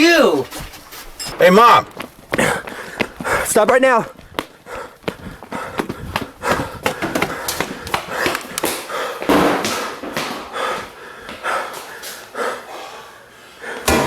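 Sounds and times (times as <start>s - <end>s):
person panting: 1.8s - 14.0s.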